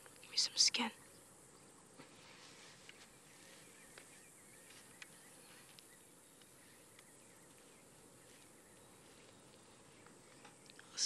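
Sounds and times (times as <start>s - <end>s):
soft bird chirps: 0.2s - 11.0s.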